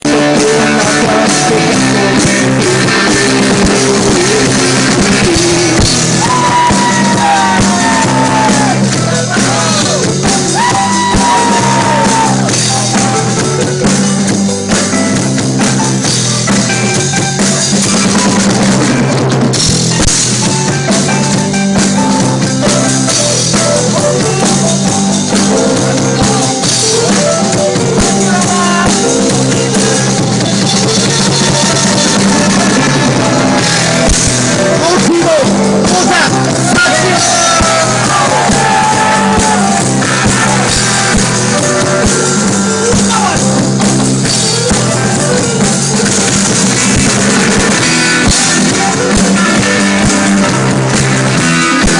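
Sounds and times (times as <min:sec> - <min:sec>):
drum kit beat: 0:00.0 - 0:51.9
rock band playing live: 0:00.0 - 0:51.9.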